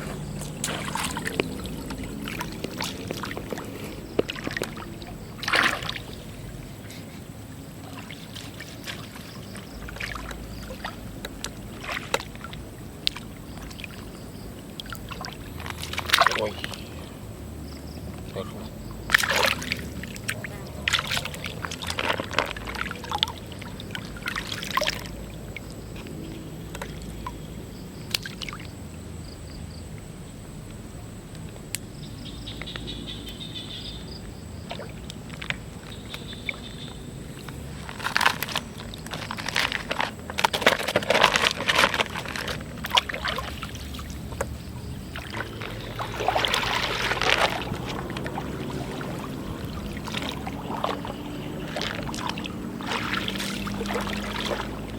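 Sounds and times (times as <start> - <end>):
water splashing and sloshing: 0.0 - 54.9.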